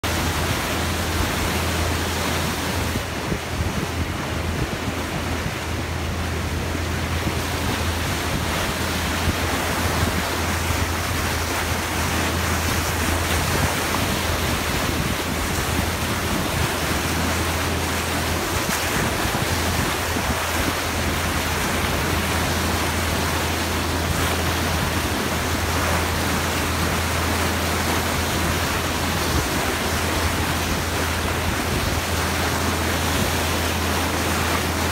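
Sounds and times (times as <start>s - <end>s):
bow wave splashing on hull: 0.0s - 34.9s
wind on microphone: 0.0s - 34.9s.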